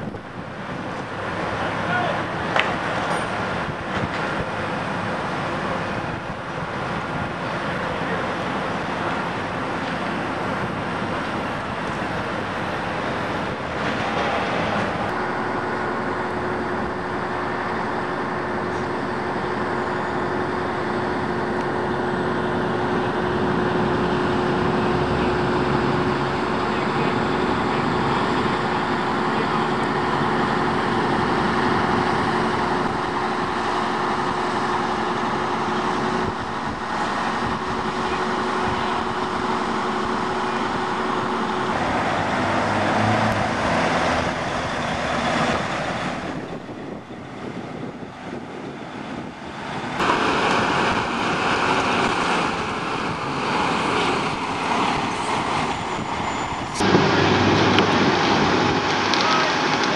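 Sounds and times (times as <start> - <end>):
road traffic noise: 0.0 - 59.9
steady hum: 0.0 - 59.9.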